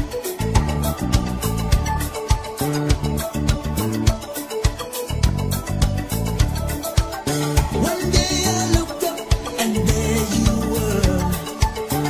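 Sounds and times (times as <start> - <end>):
upbeat song with drum beat: 0.0 - 12.0.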